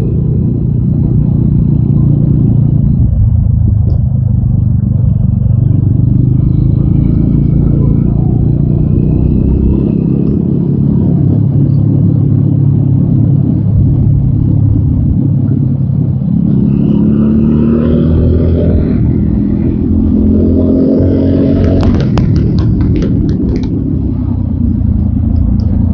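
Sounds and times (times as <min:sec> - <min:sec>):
motorcycle engine rumbling: 0:00.0 - 0:25.9.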